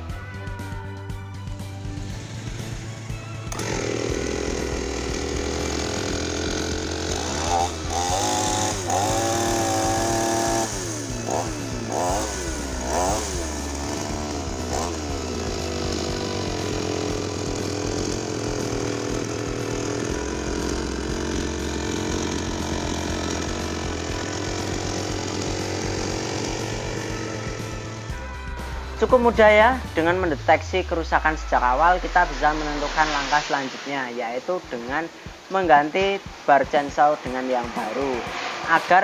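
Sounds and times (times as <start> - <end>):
chainsaw revving and idling: 1.6 - 33.5.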